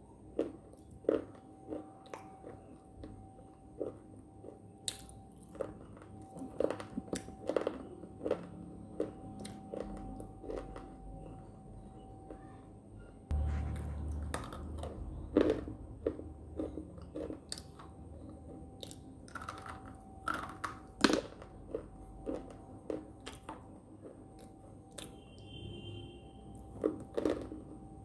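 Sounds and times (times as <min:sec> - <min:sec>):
crunching and chewing: 0:00.0 - 0:12.6, 0:13.3 - 0:25.3, 0:26.5 - 0:28.0.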